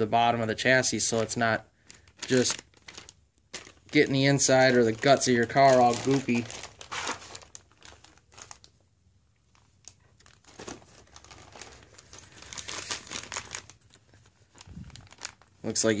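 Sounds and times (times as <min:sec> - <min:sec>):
plastic bags crinkling: 0:01.0 - 0:08.8, 0:09.4 - 0:16.0.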